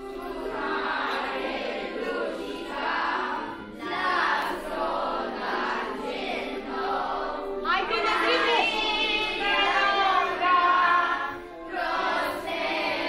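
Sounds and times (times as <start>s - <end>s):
choir singing long notes: 0.0s - 13.0s.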